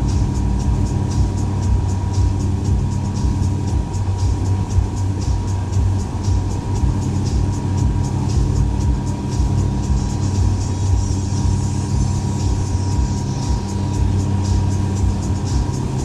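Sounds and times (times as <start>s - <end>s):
fast faint ticking: 0.0s - 16.0s
outboard engine running: 0.0s - 16.0s.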